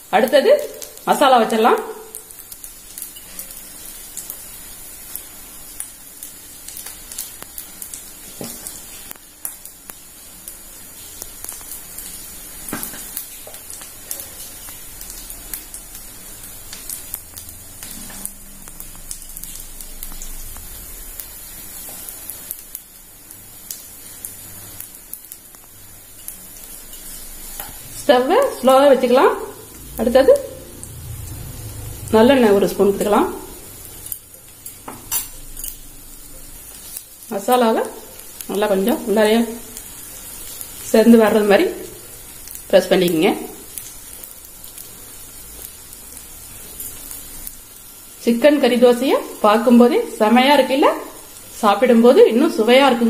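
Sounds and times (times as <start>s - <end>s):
batter sizzling in oil: 0.0s - 53.0s.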